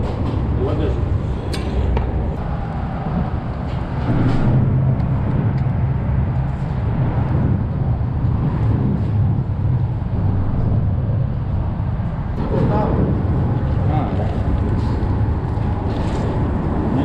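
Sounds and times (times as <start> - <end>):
low motor rumble with hum: 0.0 - 17.0.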